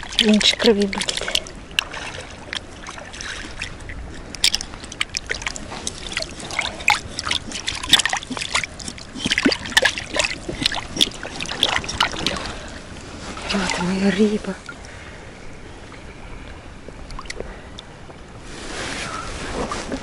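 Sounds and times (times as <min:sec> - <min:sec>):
river water splashing and dripping: 0:00.0 - 0:19.8.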